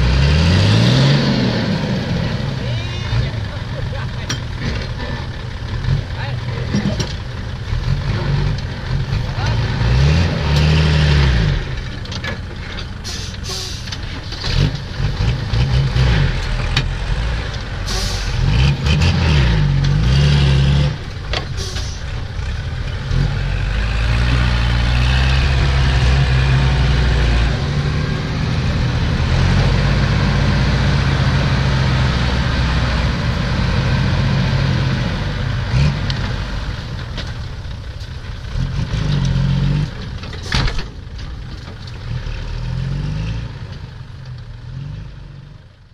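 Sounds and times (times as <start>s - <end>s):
diesel engines revving: 0.0s - 45.9s.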